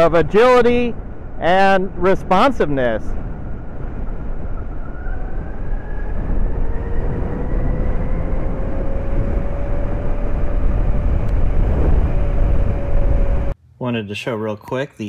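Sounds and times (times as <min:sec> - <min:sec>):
electric motorcycle drivetrain whine: 0:00.0 - 0:13.6
wind and road rush: 0:00.0 - 0:13.6.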